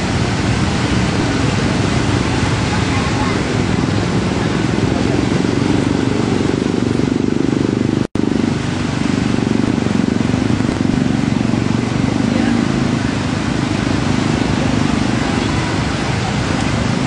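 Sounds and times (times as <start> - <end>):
motorcycle engines: 0.0 - 17.0
water splashing from wheels: 0.0 - 17.0.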